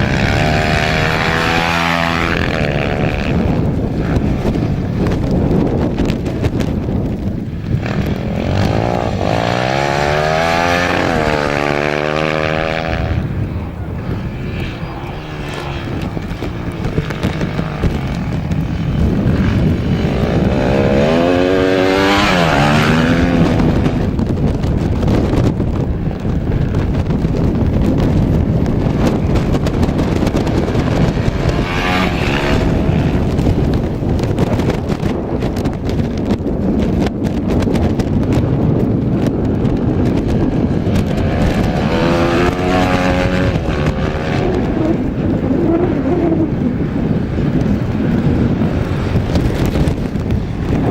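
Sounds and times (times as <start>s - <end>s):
motorcycles and quads passing: 0.0s - 50.9s
wind rumble on microphone: 0.0s - 50.9s.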